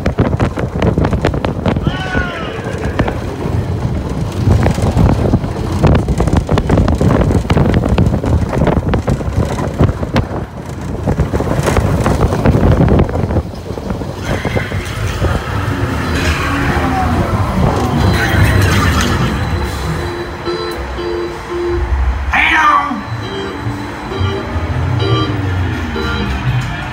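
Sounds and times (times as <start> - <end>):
wind buffeting microphone: 0.0 - 22.3
roller coaster wheels rumbling: 0.0 - 26.9.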